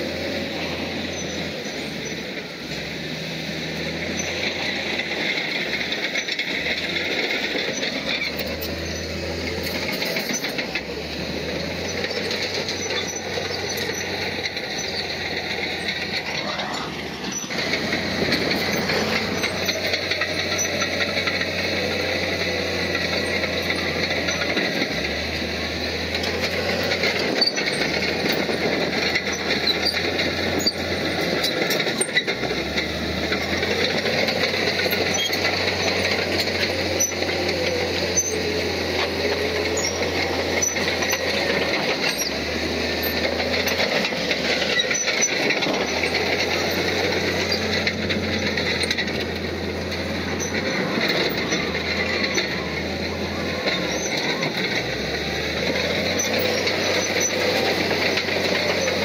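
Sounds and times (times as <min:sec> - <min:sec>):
diesel engine running: 0:00.0 - 0:59.0
metallic clatter: 0:04.1 - 0:59.0.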